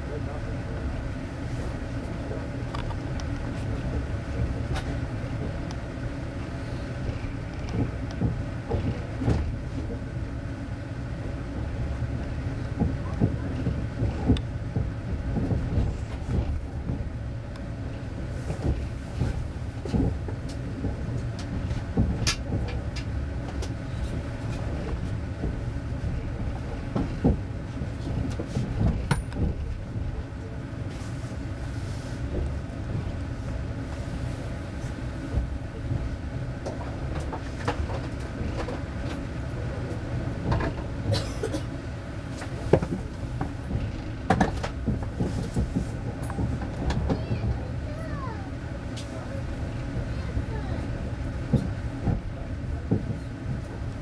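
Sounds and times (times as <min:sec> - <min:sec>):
train running gear rumbling: 0:00.0 - 0:54.0.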